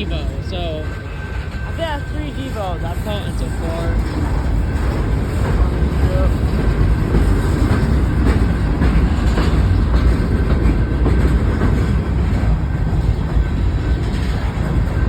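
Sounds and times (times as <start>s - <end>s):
train wheels rumbling on rail: 0.0s - 15.0s
wheels clicking over rail joints: 0.3s - 15.0s.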